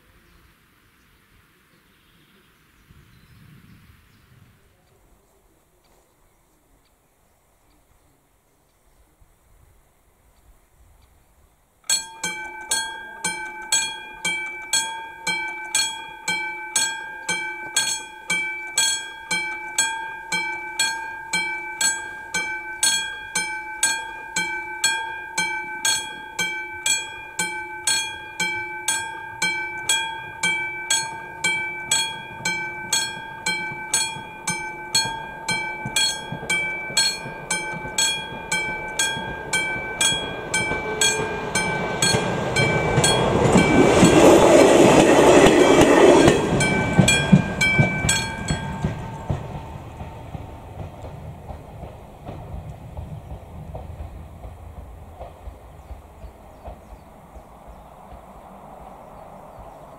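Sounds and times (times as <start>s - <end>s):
train rumble: 10.8s - 59.9s
railroad crossing bell ringing: 11.8s - 59.9s.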